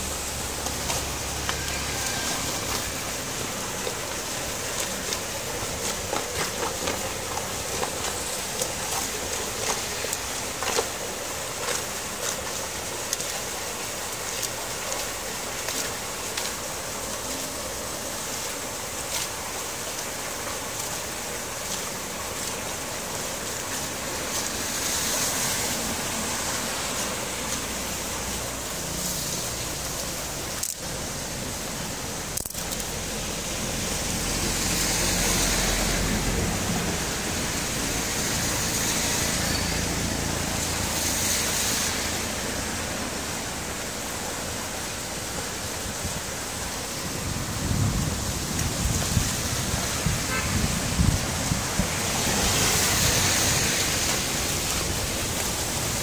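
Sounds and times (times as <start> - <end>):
floodwater running into culvert: 0.0 - 56.0
rain: 0.0 - 56.0.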